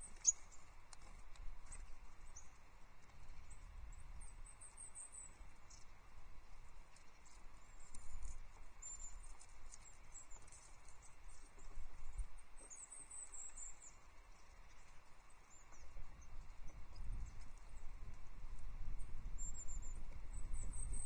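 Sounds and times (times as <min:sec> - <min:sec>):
songbirds calling and twittering: 0:00.0 - 0:21.0.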